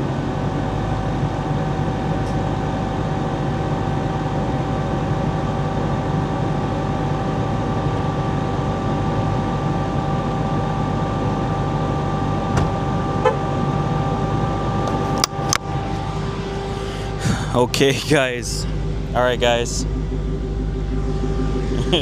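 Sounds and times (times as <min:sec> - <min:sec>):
car engine idling with whine: 0:00.0 - 0:22.0
radiator cooling fans running: 0:00.0 - 0:22.0.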